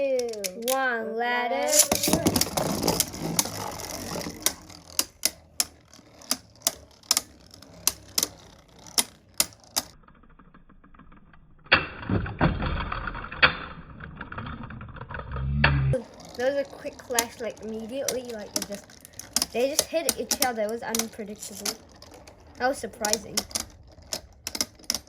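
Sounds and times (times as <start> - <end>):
spinning tops clashing plastic clacks: 1.6 - 15.1, 16.0 - 25.0.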